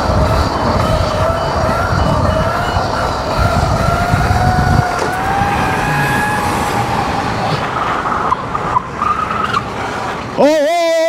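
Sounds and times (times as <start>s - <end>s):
wind rumble on microphone: 0.0s - 9.0s
electric motor whine: 0.0s - 10.4s
higher broken whine: 0.0s - 11.0s
road and traffic noise: 0.0s - 11.0s.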